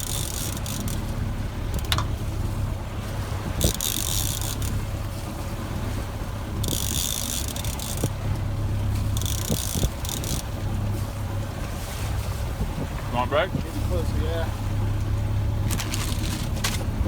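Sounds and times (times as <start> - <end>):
boat motor rumbling: 0.0 - 17.0
water noise: 0.0 - 17.0
wind: 0.0 - 17.0.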